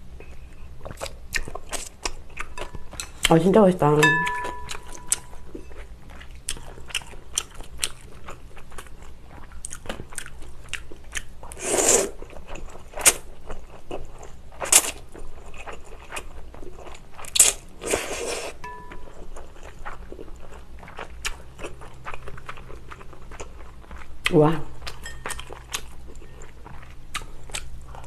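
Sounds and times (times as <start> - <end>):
chewing noodles and crunchy vegetables: 0.2 - 3.5, 4.2 - 28.0.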